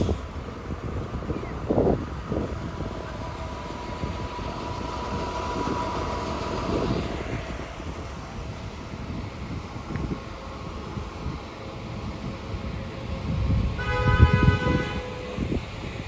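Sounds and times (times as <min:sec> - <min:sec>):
bus passing: 0:00.0 - 0:16.0
thin steady whine: 0:00.0 - 0:16.0.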